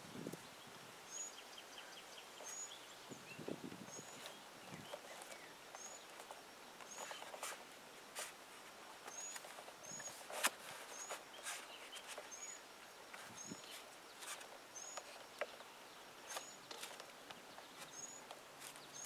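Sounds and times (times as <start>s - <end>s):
faint high bird chirps: 0.6s - 7.5s, 9.0s - 19.0s.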